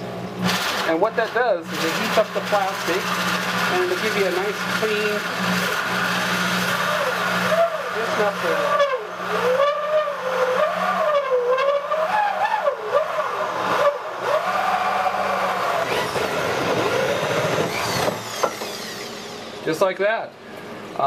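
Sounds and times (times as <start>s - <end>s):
drill hole saw squealing on plastic: 0.5s - 19.6s.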